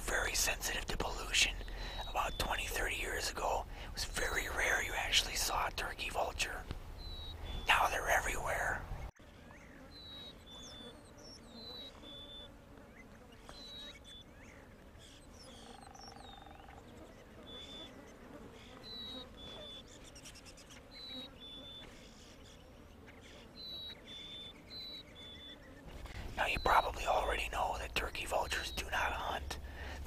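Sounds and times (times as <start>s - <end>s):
bird chirps: 0.2s - 18.1s, 18.7s - 25.8s, 26.4s - 29.6s.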